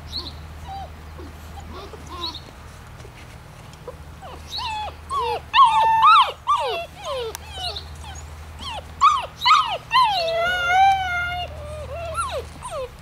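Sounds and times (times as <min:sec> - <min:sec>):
puppies whining and yelping: 0:00.1 - 0:02.5, 0:03.8 - 0:13.0.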